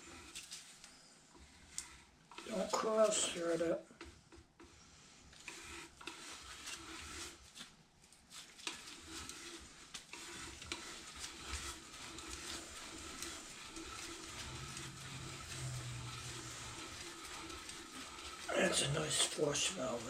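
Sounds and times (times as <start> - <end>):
scraping and rubbing on metal parts: 0.0 - 3.8, 4.7 - 20.0.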